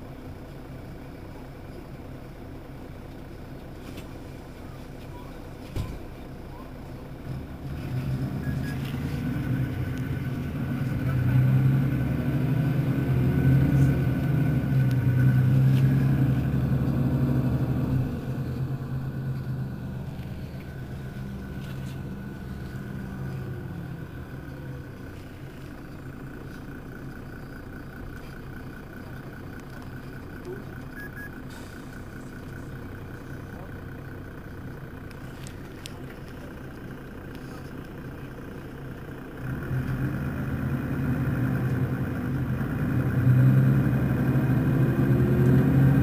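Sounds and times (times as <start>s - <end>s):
bus diesel engine idling: 0.0s - 46.0s.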